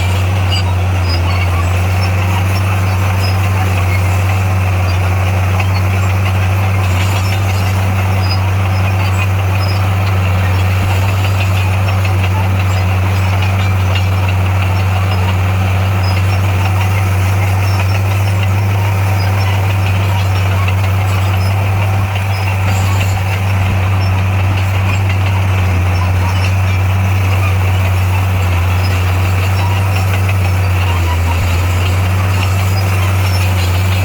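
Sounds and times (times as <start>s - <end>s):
bulldozer diesel engine humming: 0.0s - 34.0s.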